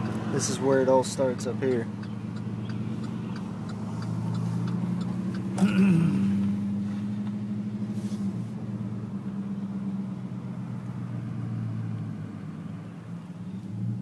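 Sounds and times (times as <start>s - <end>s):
car engine running low: 0.0s - 14.0s.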